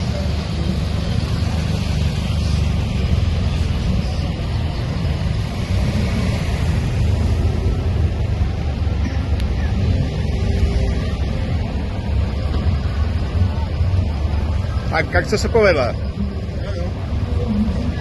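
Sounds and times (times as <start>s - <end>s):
heavy trucks engine rumble: 0.0s - 18.0s
road noise: 0.0s - 18.0s.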